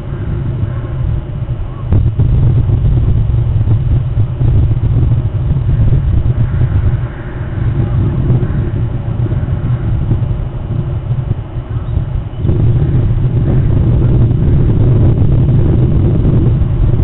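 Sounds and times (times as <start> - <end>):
wind buffeting a microphone: 0.0 - 17.0.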